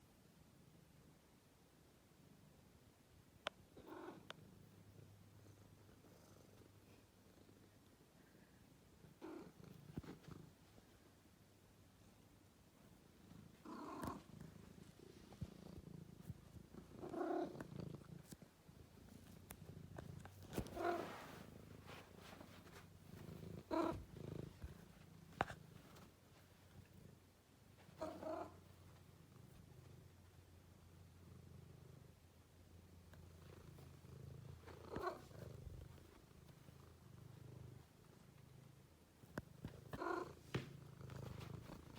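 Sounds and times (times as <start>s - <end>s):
cat purring: 3.4s - 41.9s.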